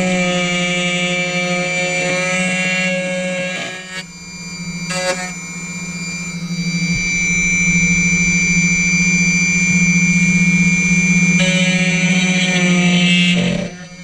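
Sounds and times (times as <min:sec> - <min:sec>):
key cutting machine whining: 0:00.0 - 0:14.0.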